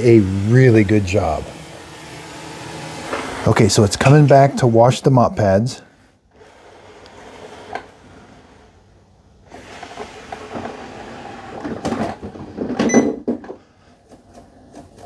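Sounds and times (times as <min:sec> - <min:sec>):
robot vacuum motor and wheels: 0:00.0 - 0:05.7, 0:06.3 - 0:12.9, 0:13.9 - 0:15.0.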